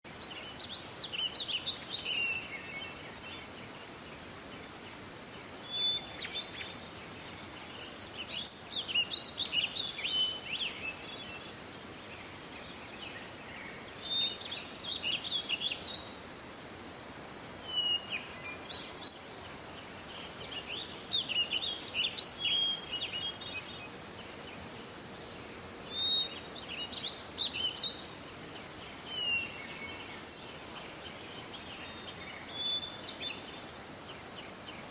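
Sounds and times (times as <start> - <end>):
songbird chirping: 0.1 - 34.9
steady background hiss: 0.1 - 34.9.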